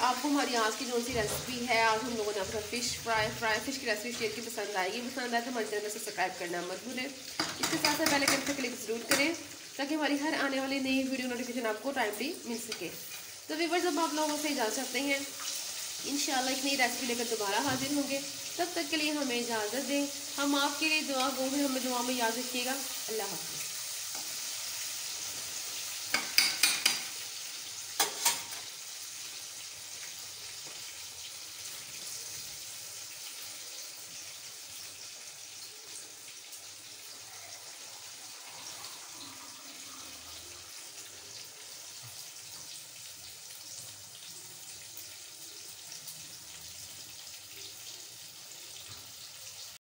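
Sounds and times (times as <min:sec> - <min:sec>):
hot oil sizzling: 0:00.0 - 0:49.8.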